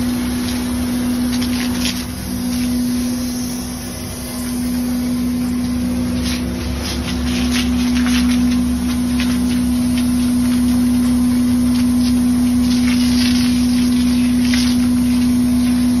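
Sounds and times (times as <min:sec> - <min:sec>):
machine hum: 0:00.0 - 0:16.0
water spraying from a hose: 0:00.0 - 0:16.0.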